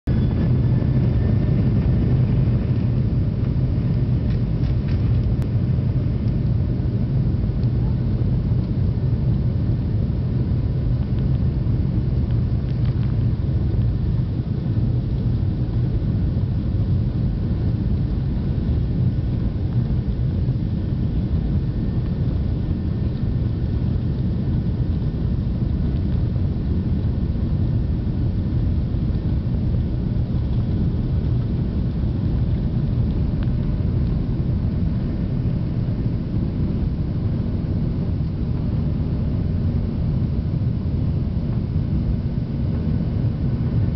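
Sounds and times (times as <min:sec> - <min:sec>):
faint engine whine: 0:00.0 - 0:43.9
jet engines rumbling in cabin: 0:00.0 - 0:43.9.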